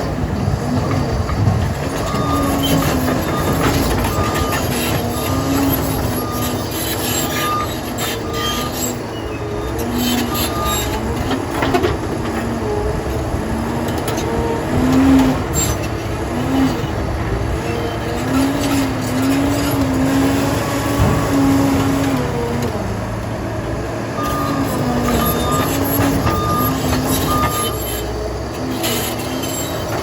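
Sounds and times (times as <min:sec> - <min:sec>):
steel tracks squealing: 0:00.0 - 0:22.5, 0:24.2 - 0:30.0
diesel engine rumble: 0:00.0 - 0:30.0.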